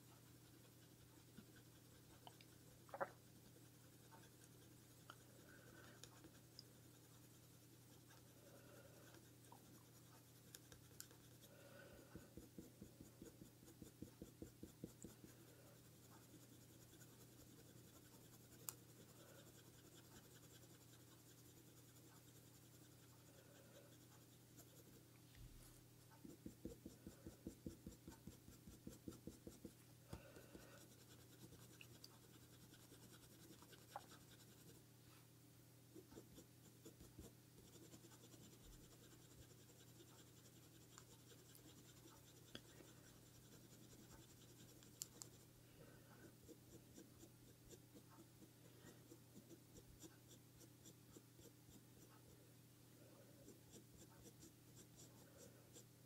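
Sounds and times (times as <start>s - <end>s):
coloured pencil scratching on paper: 0.0s - 34.8s, 35.9s - 52.4s, 53.1s - 56.0s.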